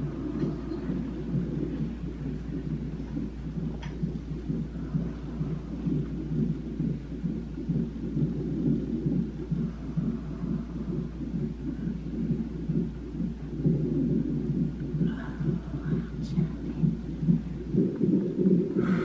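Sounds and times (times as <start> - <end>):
fetal heartbeat doppler whoosh: 0.0 - 19.0.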